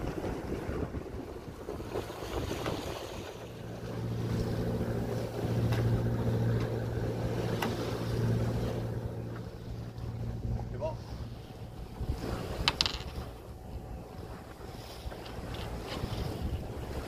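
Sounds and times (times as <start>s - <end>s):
wind buffeting microphone: 0.0s - 17.0s
low mechanical hum: 3.0s - 17.0s.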